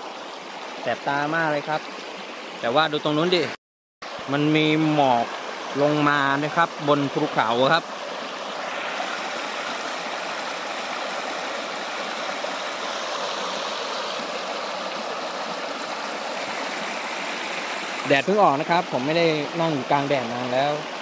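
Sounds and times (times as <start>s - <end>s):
stream splashing over stones: 0.0s - 21.0s.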